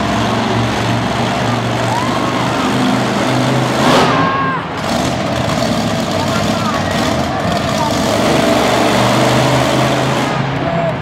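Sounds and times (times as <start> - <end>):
engine revving: 0.0 - 11.0
truck engine running loud: 0.0 - 11.0.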